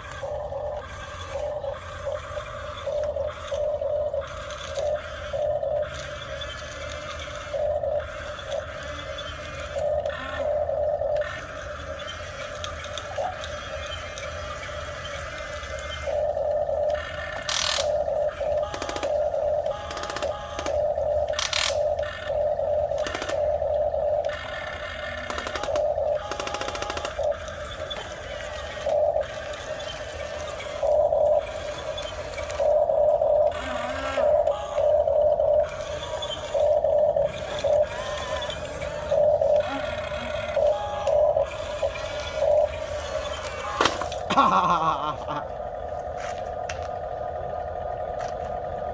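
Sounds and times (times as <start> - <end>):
toy gear motors whining: 0.0 - 48.9.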